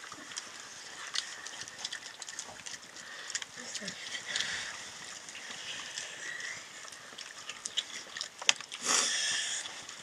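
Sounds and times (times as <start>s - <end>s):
people chewing and lip-smacking: 0.0s - 10.0s.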